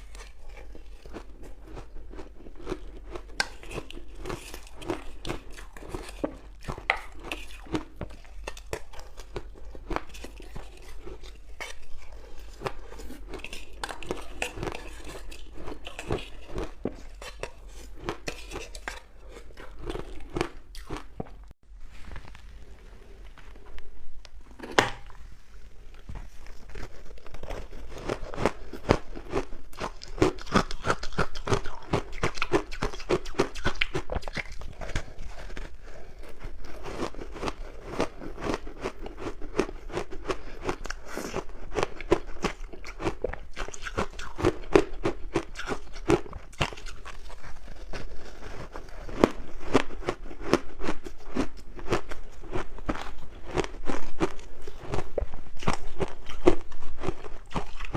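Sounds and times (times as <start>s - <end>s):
ice being chewed: 0.0s - 21.5s, 26.0s - 57.9s.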